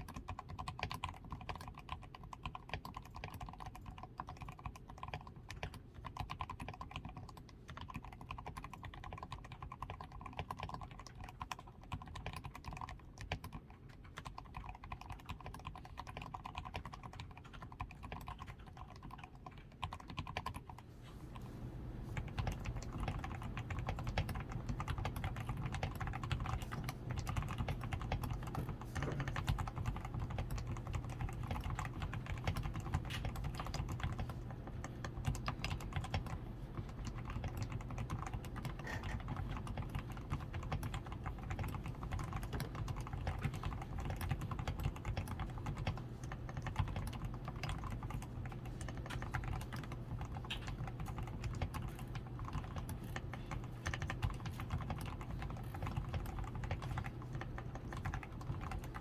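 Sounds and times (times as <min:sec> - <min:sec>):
mechanical keyboard typing: 0:00.0 - 0:20.8, 0:21.8 - 0:59.0.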